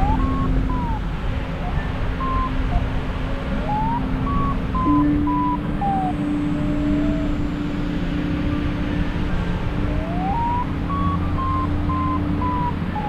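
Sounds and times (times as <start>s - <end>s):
gliding held tones: 0.0s - 13.0s
low steady hum: 0.0s - 13.0s.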